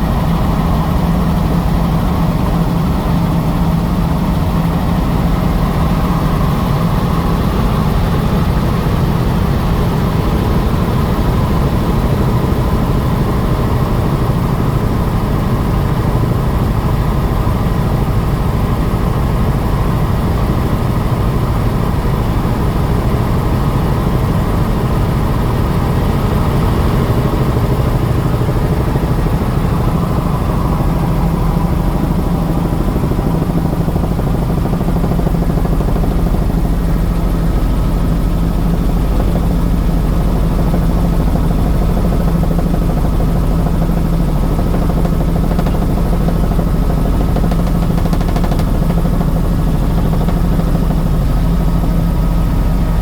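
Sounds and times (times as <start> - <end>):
helicopter engine and rotor: 0.0 - 53.0.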